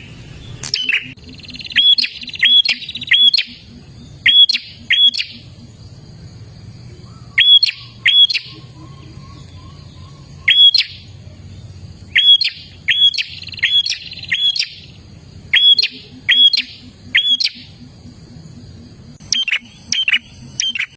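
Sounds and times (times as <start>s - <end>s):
bird calling sharp notes: 0.0s - 6.1s, 6.9s - 11.2s, 12.1s - 20.9s.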